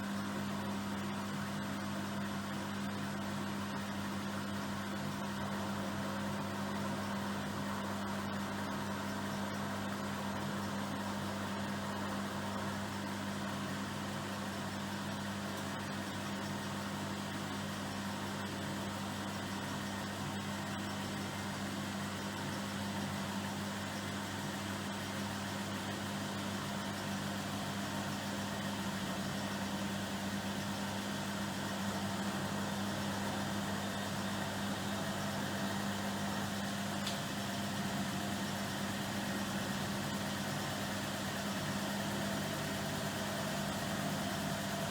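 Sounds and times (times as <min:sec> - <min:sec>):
washing machine humming: 0:00.0 - 0:44.9.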